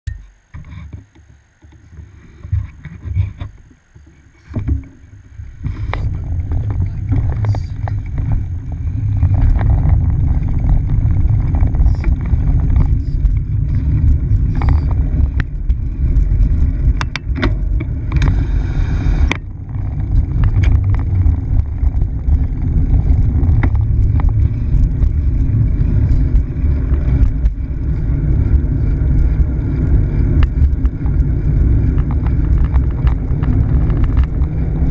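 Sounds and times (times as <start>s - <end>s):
wind rumbling on microphone: 0.1s - 34.9s.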